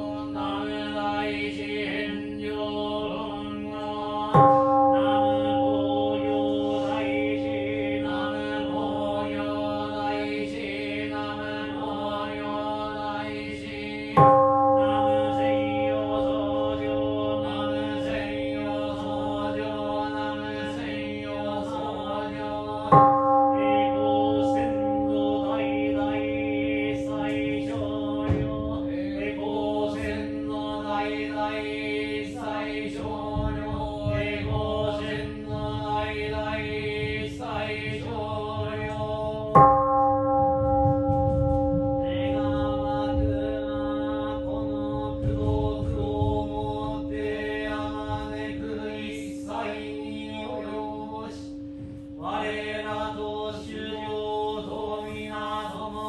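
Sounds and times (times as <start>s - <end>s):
sutra chanting: 0.0s - 56.0s
temple bell struck: 0.0s - 56.0s.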